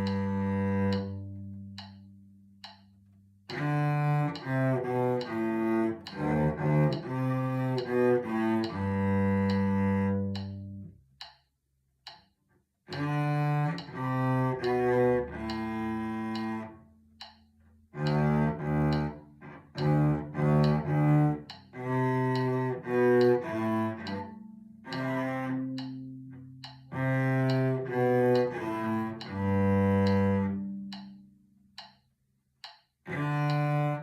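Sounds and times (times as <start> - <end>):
bowed cello notes: 0.0 - 11.0, 12.9 - 31.9, 33.0 - 34.0.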